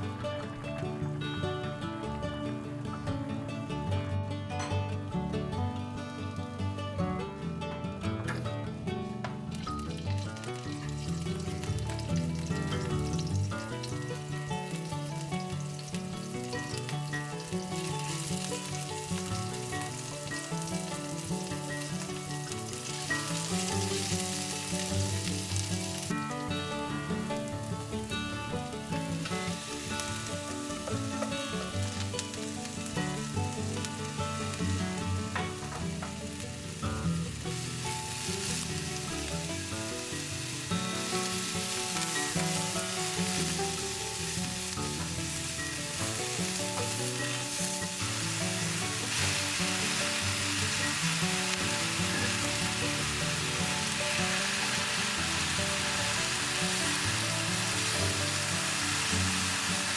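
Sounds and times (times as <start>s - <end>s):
soft background music: 0.0s - 59.9s
food sizzling in a pan: 9.5s - 59.9s.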